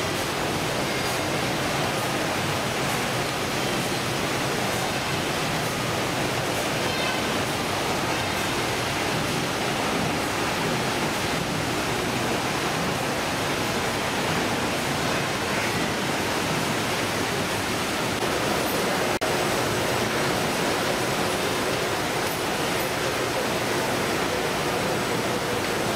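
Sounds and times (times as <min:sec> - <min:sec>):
running water: 0:00.0 - 0:25.9.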